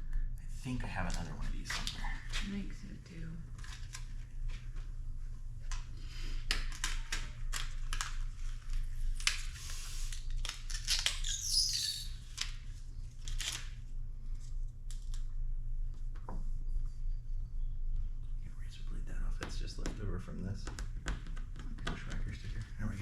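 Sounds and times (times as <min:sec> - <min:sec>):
steady low hum: 0:00.0 - 0:10.9, 0:12.0 - 0:23.0.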